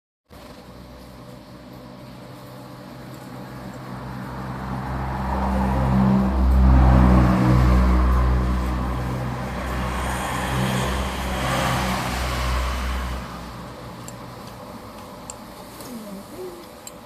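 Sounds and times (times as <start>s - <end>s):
engine humming: 0.4s - 17.0s.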